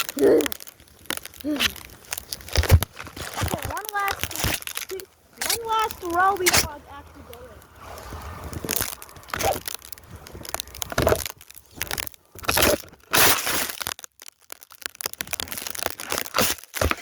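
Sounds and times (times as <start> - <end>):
snow crunching: 0.0 - 13.7.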